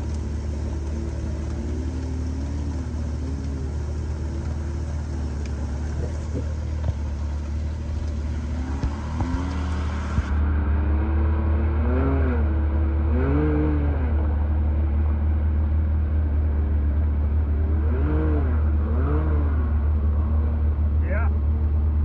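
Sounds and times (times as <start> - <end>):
engine revving: 0.0 - 14.5, 17.4 - 21.3.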